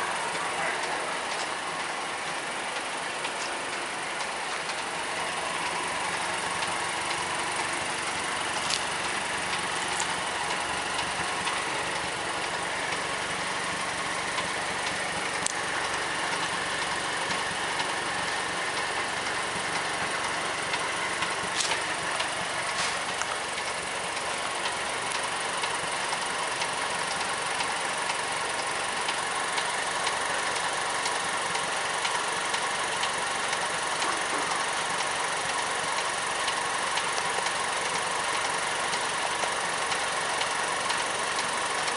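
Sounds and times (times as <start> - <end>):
car engine idling: 0.0 - 41.9
engine ticking: 0.0 - 41.9.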